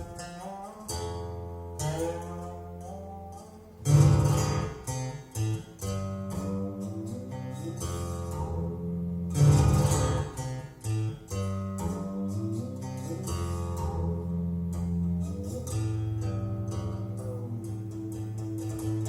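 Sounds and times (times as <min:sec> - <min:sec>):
plucked string music: 0:00.0 - 0:19.0.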